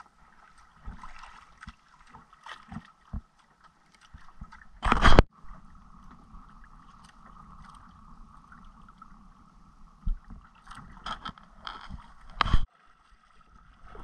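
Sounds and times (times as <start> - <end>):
water washing around boat: 0.0 - 14.0
wind: 0.0 - 14.0.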